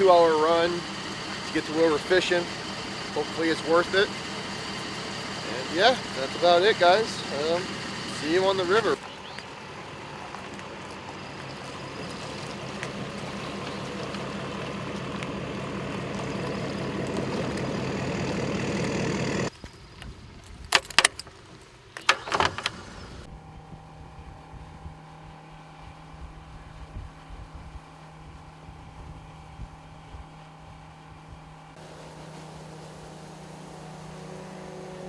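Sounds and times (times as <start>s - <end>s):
motor engine running: 0.0s - 19.5s, 22.1s - 35.0s
low engine hum: 0.0s - 19.7s, 22.1s - 35.0s.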